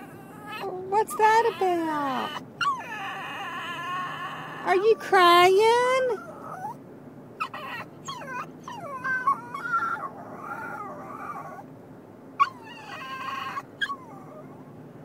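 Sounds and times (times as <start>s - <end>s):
dog whining and whimpering: 0.0s - 6.8s, 7.4s - 11.7s, 12.4s - 14.8s
car road noise: 0.0s - 15.0s.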